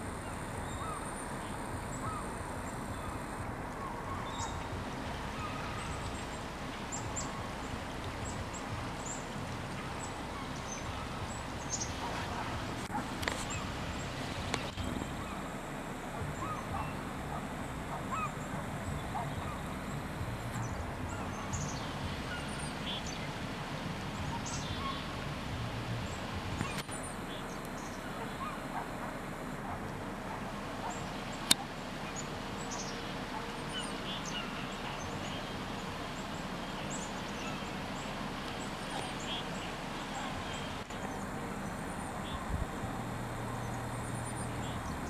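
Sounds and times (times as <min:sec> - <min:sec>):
steady rushing noise: 0:00.0 - 0:45.0
wild birds calling: 0:00.0 - 0:45.0.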